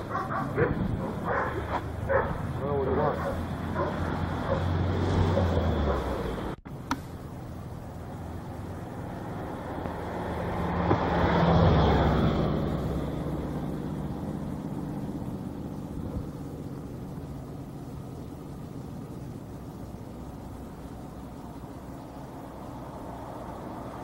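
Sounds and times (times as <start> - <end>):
outdoor background hum: 0.0 - 24.0
road vehicle passing: 0.0 - 24.0.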